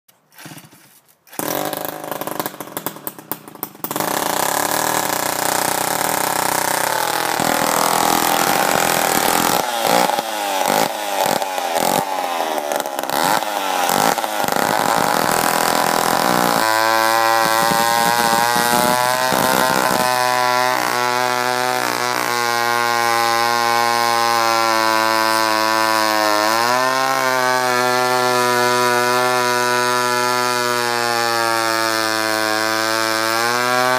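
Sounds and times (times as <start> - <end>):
chainsaw starting and revving: 0.3 - 33.9.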